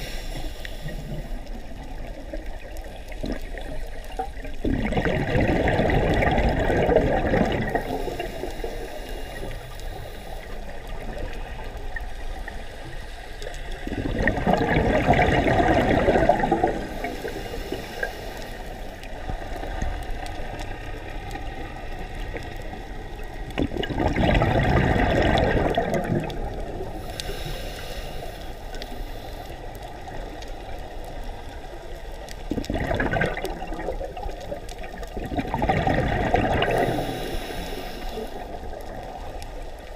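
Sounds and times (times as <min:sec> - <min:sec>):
underwater breath bubbles: 0:00.0 - 0:30.2, 0:32.3 - 0:39.6
water noise: 0:00.0 - 0:39.9.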